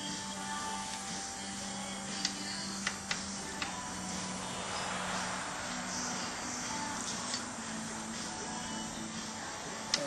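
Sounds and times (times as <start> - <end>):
music playing: 0.0 - 10.0.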